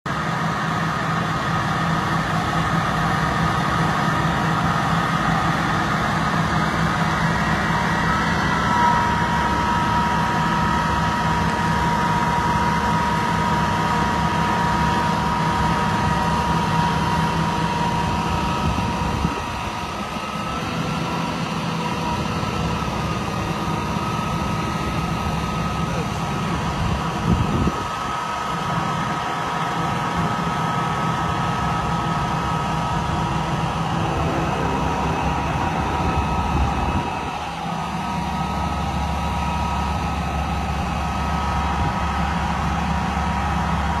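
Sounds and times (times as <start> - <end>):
fire truck engine running: 0.0 - 44.0
hydraulic whine: 0.2 - 44.0.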